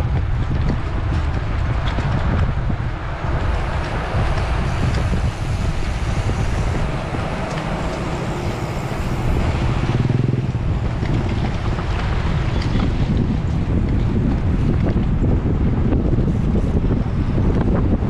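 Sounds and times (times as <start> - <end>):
engine hum: 0.0 - 18.0
wind buffeting microphone: 0.0 - 18.0.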